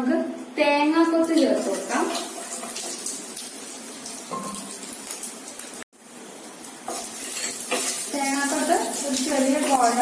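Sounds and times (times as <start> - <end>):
oil sizzling in a pan: 1.2 - 10.0.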